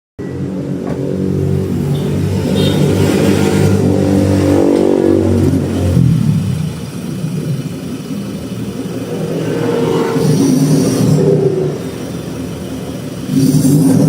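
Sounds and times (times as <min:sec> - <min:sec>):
diesel engine revving: 0:00.4 - 0:14.0.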